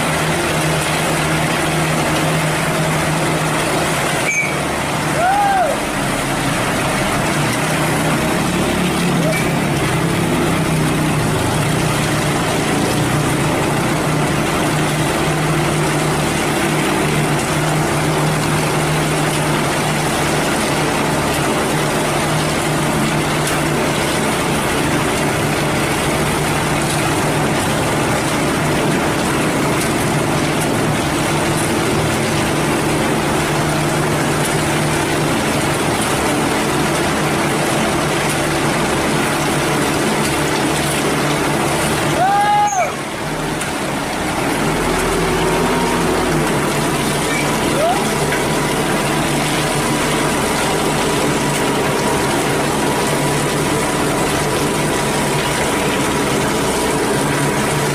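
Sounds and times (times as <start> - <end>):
diesel truck engine humming: 0.0 - 57.9.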